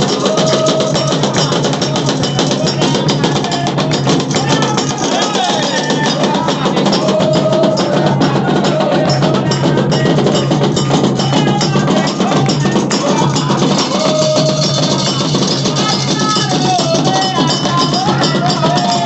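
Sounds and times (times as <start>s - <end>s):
hand drums: 0.0s - 19.0s
metal bell ringing a rhythm: 0.0s - 19.0s.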